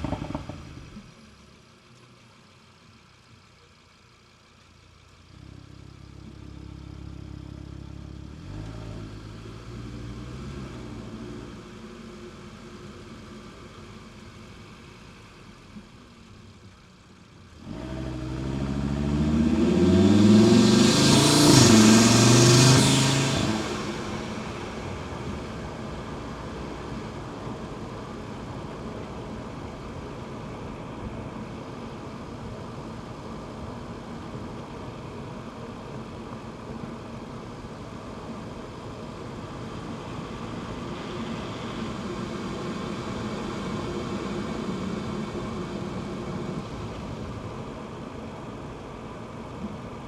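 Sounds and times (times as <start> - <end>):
car engine cruising: 0.0 - 50.0
road noise: 0.0 - 50.0.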